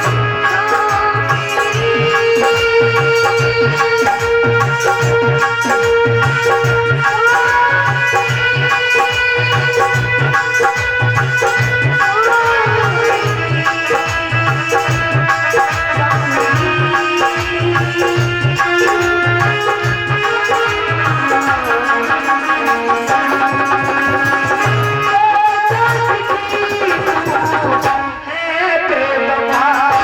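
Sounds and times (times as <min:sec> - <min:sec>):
hand drum beat: 0:00.0 - 0:28.1
held melodic tones: 0:00.0 - 0:28.2
rattling percussion: 0:00.0 - 0:28.2, 0:29.5 - 0:30.0.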